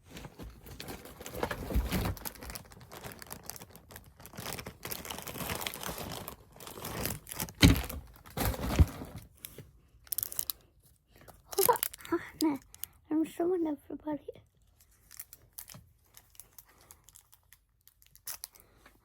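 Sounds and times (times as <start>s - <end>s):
plastic wrapper crinkling: 0.2s - 13.0s, 14.6s - 18.8s.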